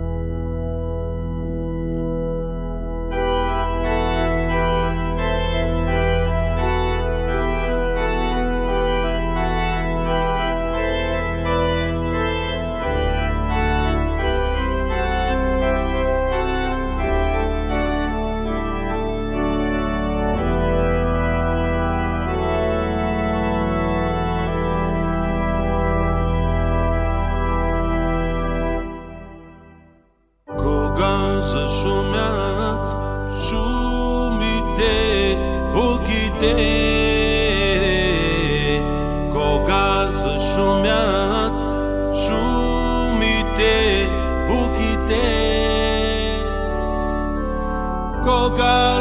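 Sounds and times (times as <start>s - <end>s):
low bass: 0.0s - 29.8s, 30.5s - 49.0s
organ-like keyboard chords: 0.0s - 49.0s.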